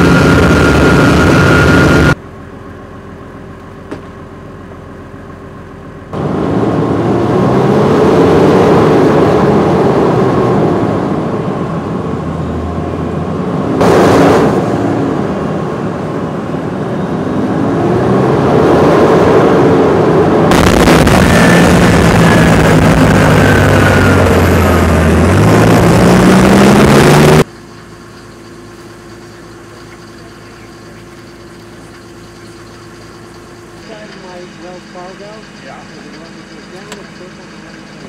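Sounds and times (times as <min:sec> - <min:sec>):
tracked vehicle engine and tracks: 0:00.0 - 0:38.0.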